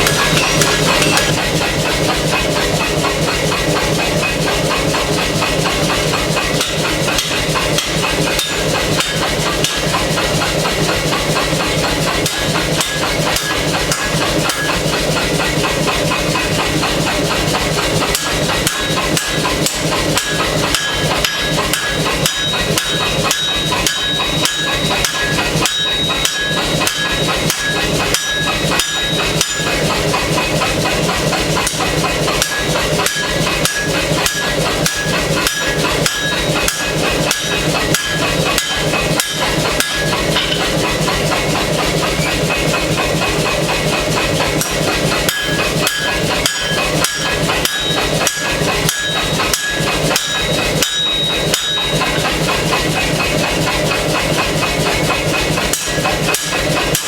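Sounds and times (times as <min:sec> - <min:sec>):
high metallic ringing tone: 0:00.0 - 0:02.0, 0:06.3 - 0:43.3, 0:44.2 - 0:54.7
hammer blows on hot steel: 0:05.3 - 0:57.0.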